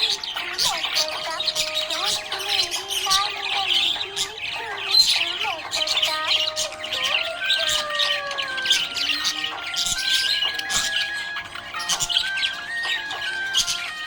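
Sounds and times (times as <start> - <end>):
budgerigar chattering: 0.0 - 14.0.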